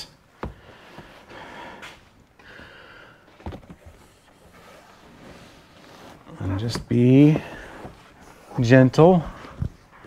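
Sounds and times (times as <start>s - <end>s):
soft breathing: 0.4s - 10.0s.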